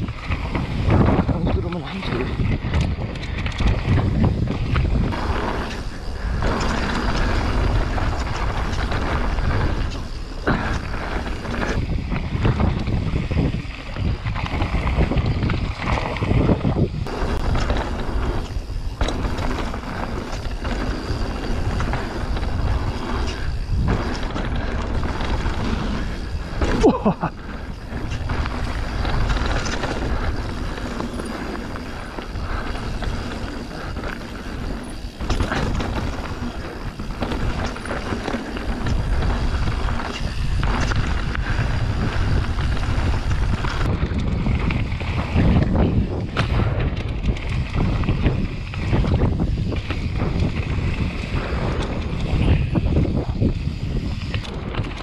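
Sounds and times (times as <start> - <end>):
bike knocks and rattles: 0.0 - 55.0
tyres rumbling on dirt: 0.0 - 55.0
wind on microphone: 0.0 - 55.0.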